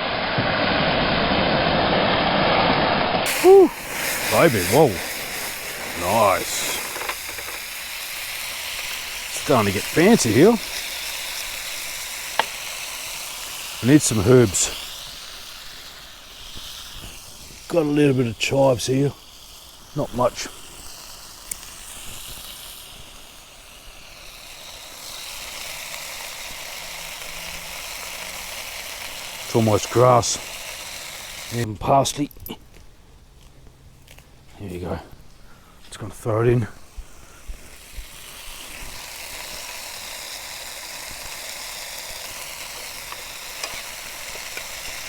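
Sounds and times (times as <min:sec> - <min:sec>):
oil sizzling in a pan: 0:03.2 - 0:31.7, 0:36.1 - 0:45.0.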